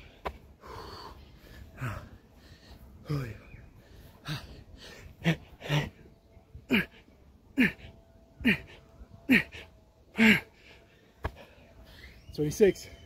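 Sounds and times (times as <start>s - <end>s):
man breathing hard: 0.0s - 12.2s.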